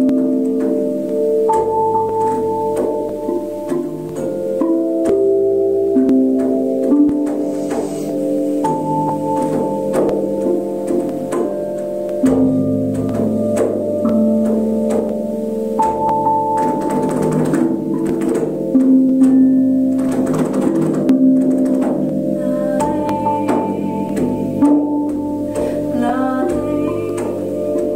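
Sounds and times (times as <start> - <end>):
metal bells struck with mallets: 0.0 - 27.9.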